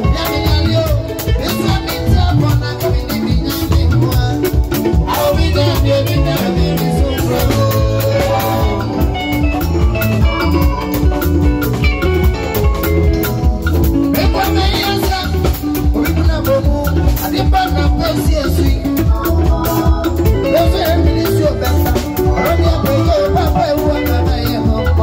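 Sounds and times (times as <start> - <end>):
drum kit beat: 0.0 - 25.0
live band playing upbeat groove: 0.0 - 25.0.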